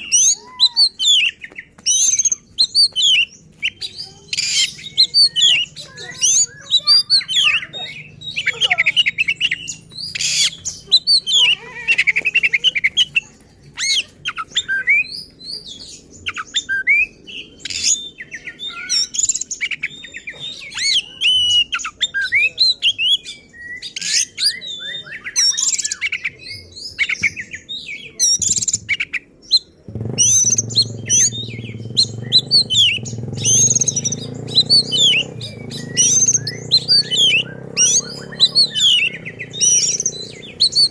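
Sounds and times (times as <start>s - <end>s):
songbird whistling and chirping: 0.0s - 40.9s.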